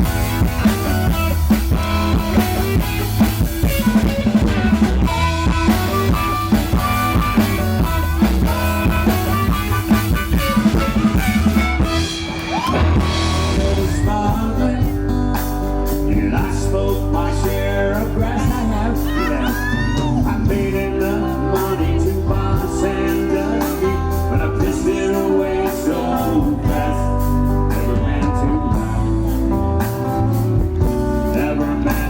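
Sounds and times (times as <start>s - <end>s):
drum kit: 0.0s - 32.0s
electric guitar: 0.0s - 32.0s
live rock band: 0.0s - 32.0s.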